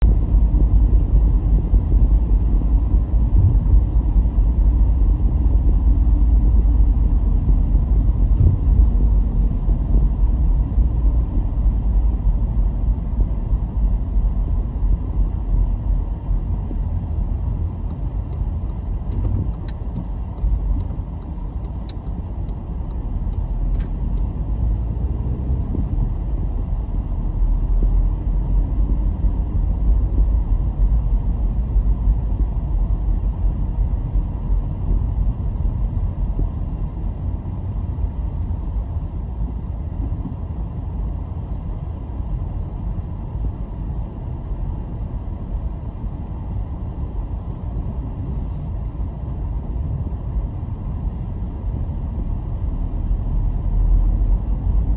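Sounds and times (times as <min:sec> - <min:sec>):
car engine and tyre rumble: 0:00.0 - 0:54.9.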